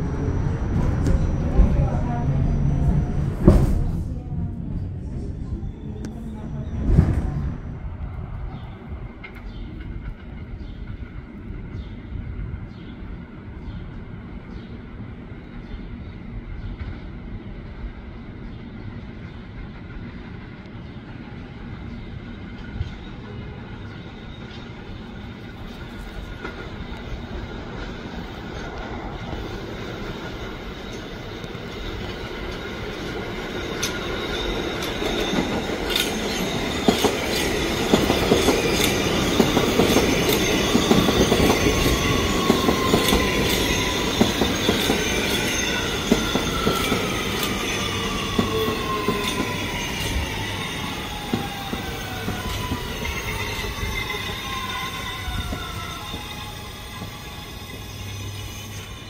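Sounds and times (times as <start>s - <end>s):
subway train passing: 0.0s - 59.0s.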